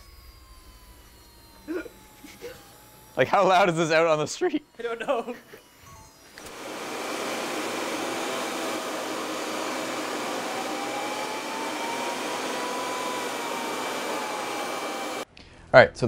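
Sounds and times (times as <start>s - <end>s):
faint rising and falling tone: 0.0s - 15.2s
high turbine whine: 0.0s - 15.2s
jet turbine rushing: 0.0s - 15.2s.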